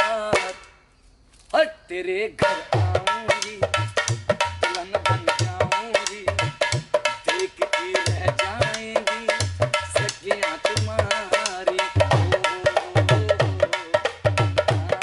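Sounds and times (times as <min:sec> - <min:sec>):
hand drum fast rhythm: 0:02.4 - 0:15.0.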